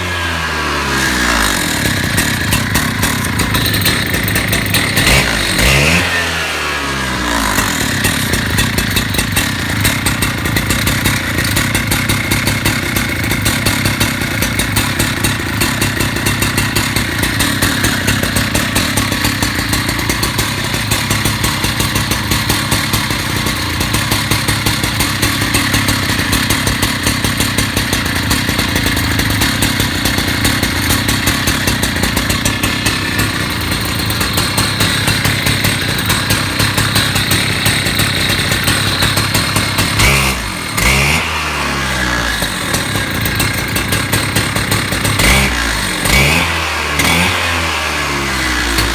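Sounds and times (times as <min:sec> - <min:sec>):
concrete saw engine running: 0:00.0 - 0:48.9.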